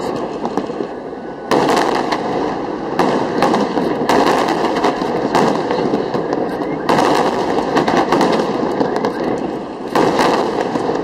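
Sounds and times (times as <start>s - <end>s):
dense crackling: 0.0s - 11.0s
firework shells bursting: 0.0s - 11.0s.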